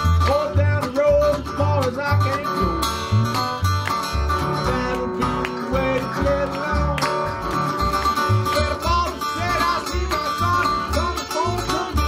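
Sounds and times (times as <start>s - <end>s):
resonator guitar blues: 0.0s - 12.0s
washtub bass plucking: 0.0s - 12.0s.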